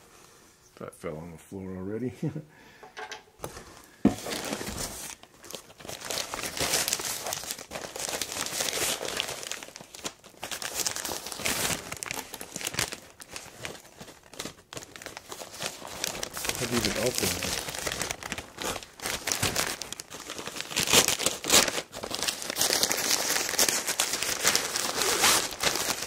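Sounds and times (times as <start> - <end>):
packaging crinkling and rustling: 3.4 - 26.0.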